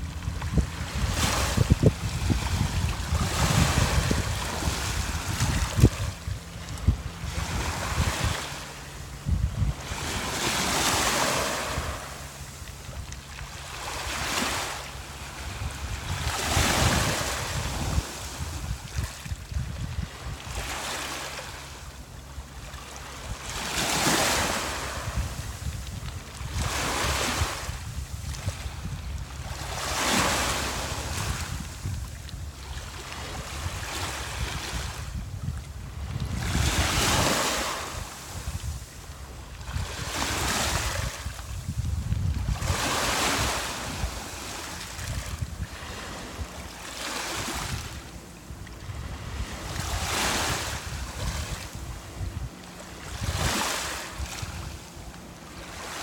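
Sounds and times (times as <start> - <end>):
sea waves breaking on beach: 0.0 - 56.0
wind rumbling on microphone: 0.0 - 56.0.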